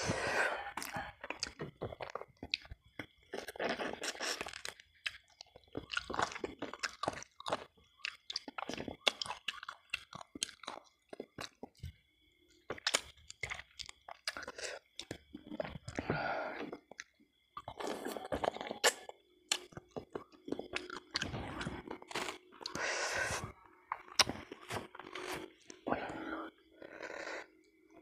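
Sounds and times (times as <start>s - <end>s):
person chewing with wet smacks: 0.7s - 12.0s, 12.6s - 16.0s, 16.6s - 22.8s, 23.4s - 25.8s.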